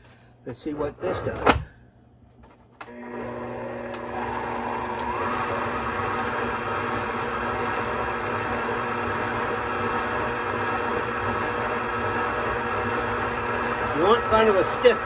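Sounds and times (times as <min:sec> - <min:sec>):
electric mixer motor hum: 0:02.8 - 0:15.0.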